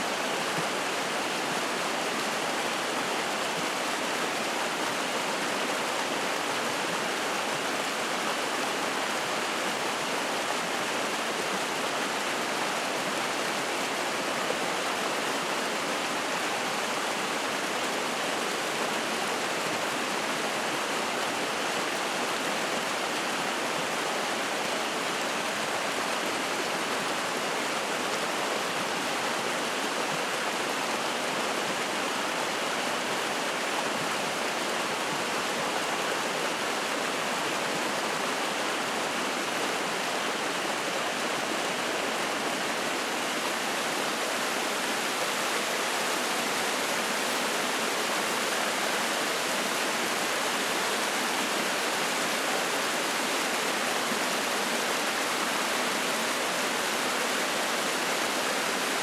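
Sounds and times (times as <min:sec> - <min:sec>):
stream flowing and splashing: 0:00.0 - 0:59.0.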